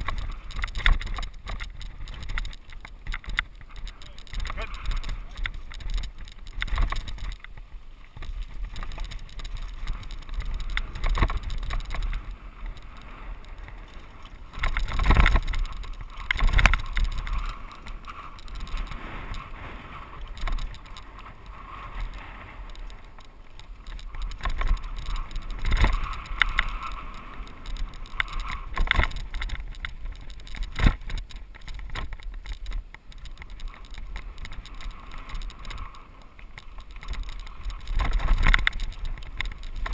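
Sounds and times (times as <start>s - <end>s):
bike rattling and knocking: 0.0s - 39.9s
wind on microphone: 0.0s - 39.9s.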